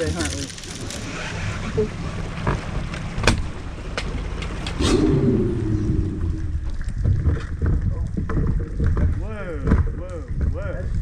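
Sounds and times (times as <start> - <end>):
boat motor rumbling: 0.0 - 11.0.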